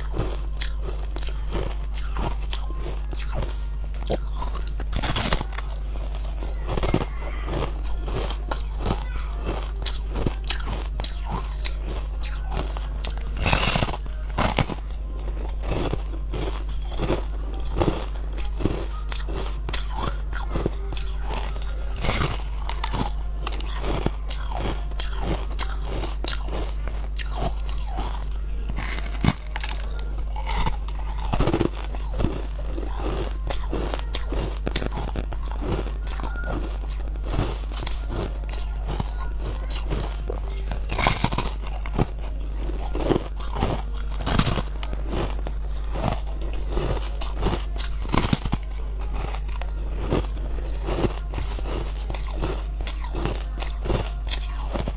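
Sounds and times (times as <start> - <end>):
crunching and chewing ice: 0.0 - 54.9.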